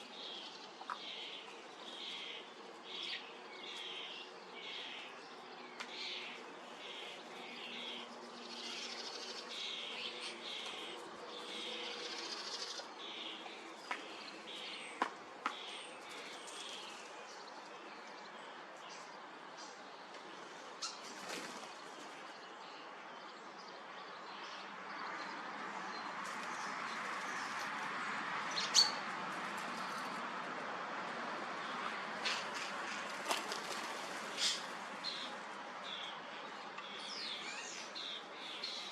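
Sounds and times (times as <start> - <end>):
birds chirping raspily: 0.0 - 30.3, 31.6 - 38.9.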